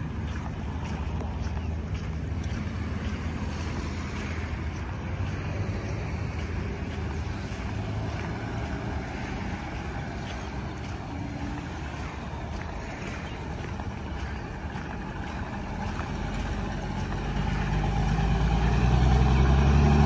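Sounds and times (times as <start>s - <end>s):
wind buffeting microphone: 0.0s - 19.9s
outdoor noise: 0.0s - 20.0s.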